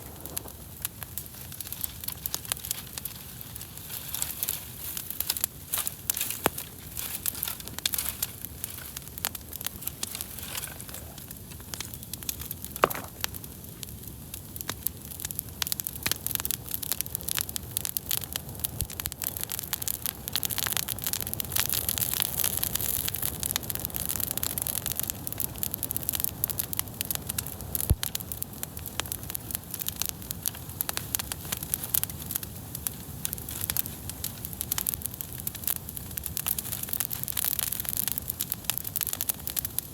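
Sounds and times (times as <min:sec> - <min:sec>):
wood campfire crackling: 0:00.0 - 0:39.9.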